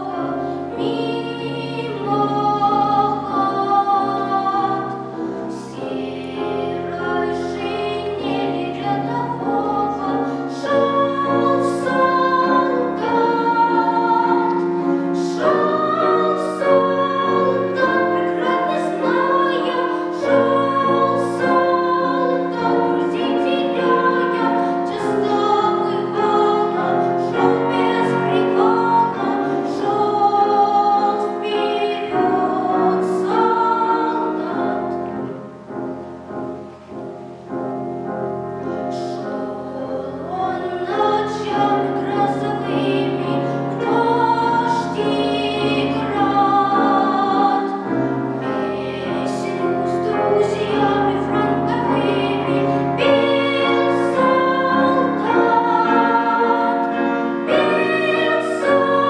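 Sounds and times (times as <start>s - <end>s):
child singing with vibrato: 0.0s - 35.6s, 38.9s - 59.0s
piano accompaniment: 0.0s - 59.0s.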